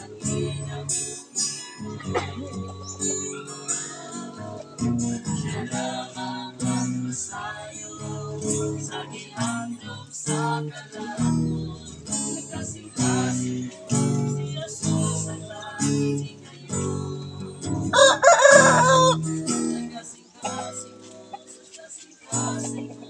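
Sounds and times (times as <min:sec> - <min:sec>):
acoustic guitar strumming: 0:00.0 - 0:23.0
person singing: 0:00.0 - 0:23.0.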